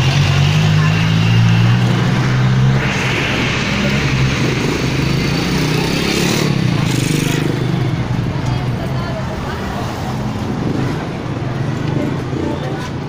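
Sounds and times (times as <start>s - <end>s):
street traffic: 0.0s - 13.0s
vehicle engine running: 0.0s - 13.0s.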